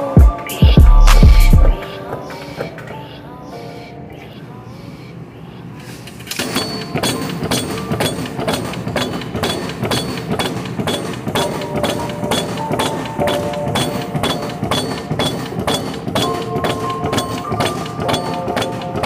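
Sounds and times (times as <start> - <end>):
background music: 0.0 - 5.2, 6.6 - 19.0.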